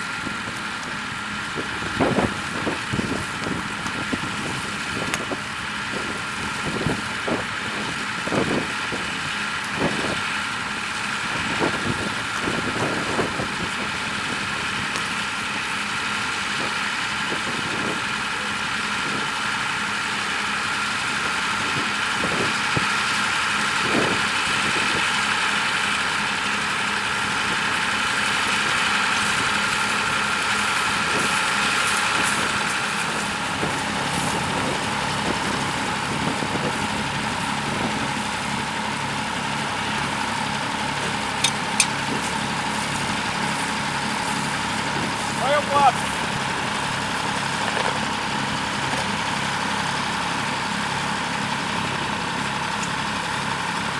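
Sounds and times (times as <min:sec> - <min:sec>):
high steady whine: 0:00.0 - 0:53.9
tractor engine running: 0:00.0 - 0:53.9.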